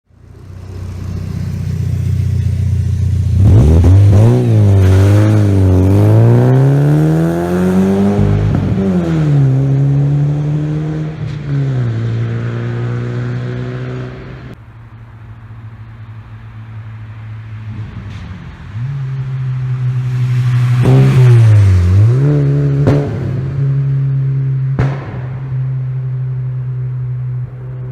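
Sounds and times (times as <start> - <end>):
car engine revving and idling: 0.1 - 14.6, 15.2 - 27.9.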